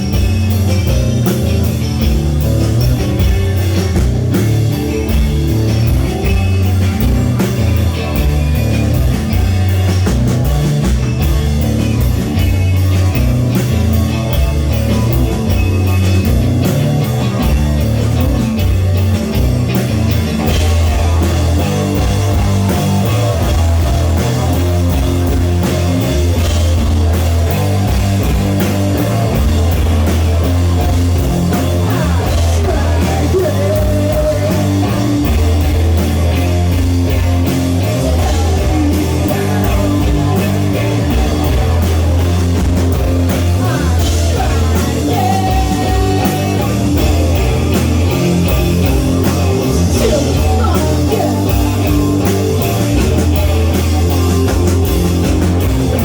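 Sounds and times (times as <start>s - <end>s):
electric guitar: 0.0s - 56.0s
heavy low bass: 0.0s - 56.0s
live rock band playing: 0.0s - 56.0s.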